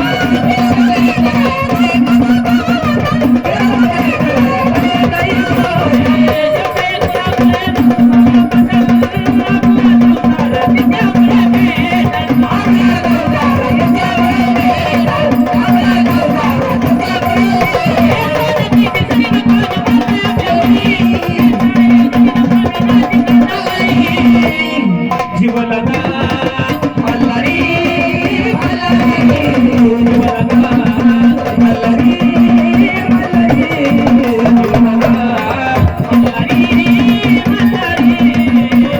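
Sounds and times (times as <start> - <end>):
hand drums busy rhythm: 0.0 - 38.9.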